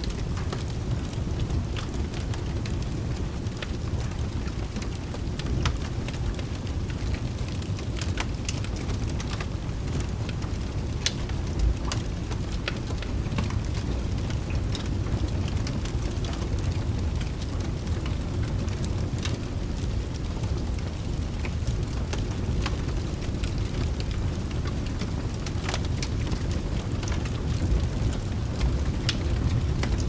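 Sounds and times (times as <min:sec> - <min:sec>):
steady rain: 0:00.0 - 0:30.0
wood fire crackling and popping: 0:00.0 - 0:30.0.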